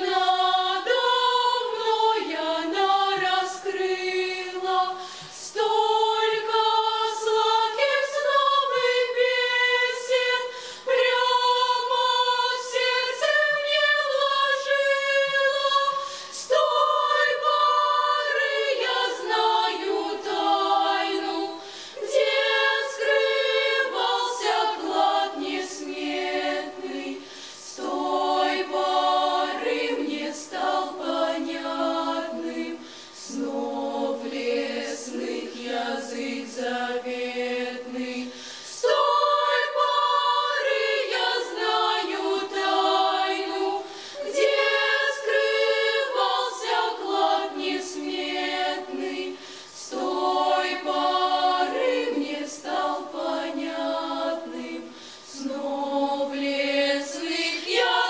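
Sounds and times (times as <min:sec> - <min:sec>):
youth choir singing a cappella: 0:00.0 - 0:58.0.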